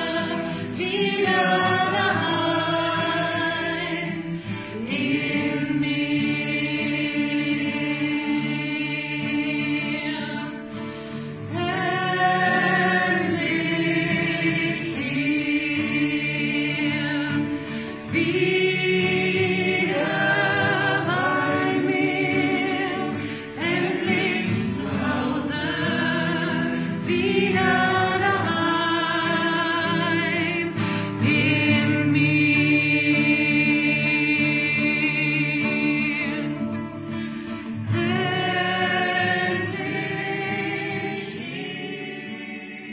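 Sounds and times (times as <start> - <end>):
group of voices singing chords: 0.0 - 42.9.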